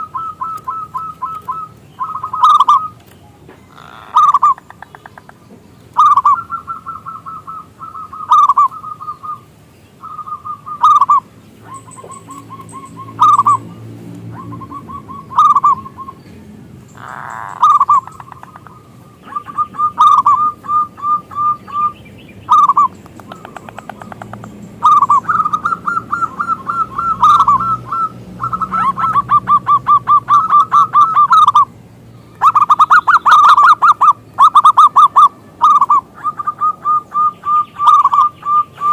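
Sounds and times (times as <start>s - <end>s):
dove cooing: 0.0s - 3.0s, 3.6s - 9.4s, 10.0s - 16.2s, 17.0s - 31.7s, 32.4s - 38.9s.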